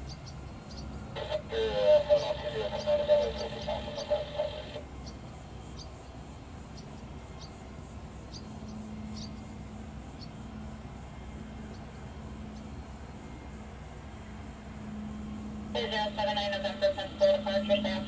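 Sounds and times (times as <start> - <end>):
faint low hum: 0.0 - 18.0
outdoor background rumble: 0.0 - 18.0.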